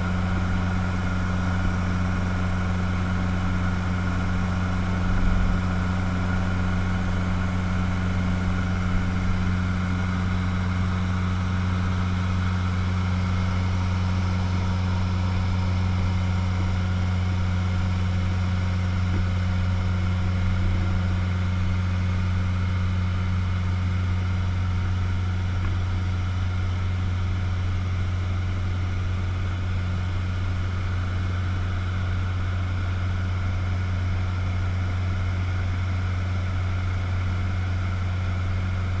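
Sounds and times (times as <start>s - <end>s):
airplane engine hum in cabin: 0.0s - 39.0s.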